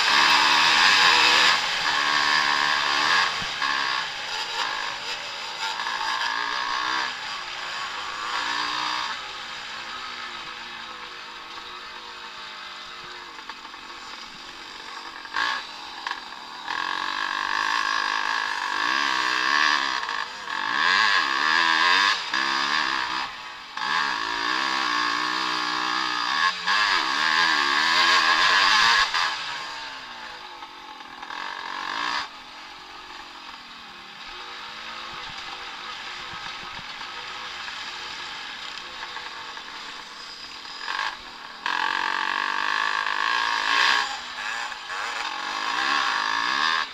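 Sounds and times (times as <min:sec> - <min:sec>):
motocross bikes revving past: 0:00.0 - 0:46.9.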